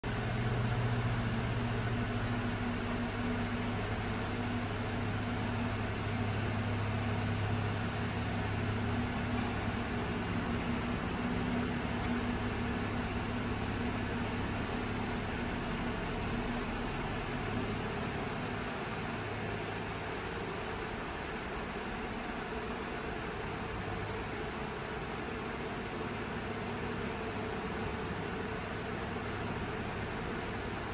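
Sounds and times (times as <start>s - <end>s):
steady mechanical hum: 0.0s - 30.9s.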